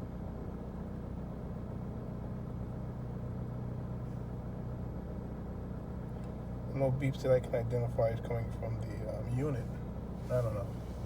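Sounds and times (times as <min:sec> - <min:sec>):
car engine idling: 0:00.6 - 0:11.0.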